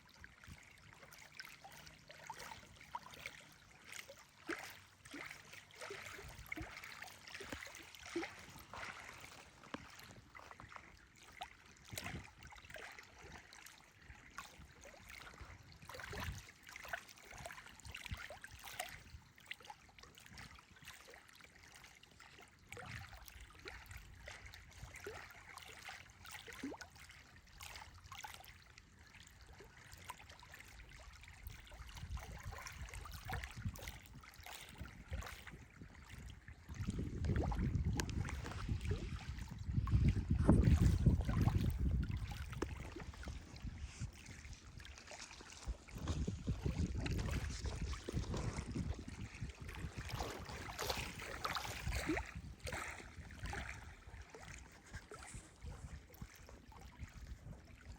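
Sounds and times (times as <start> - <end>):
small water waves lapping: 0.0 - 57.9.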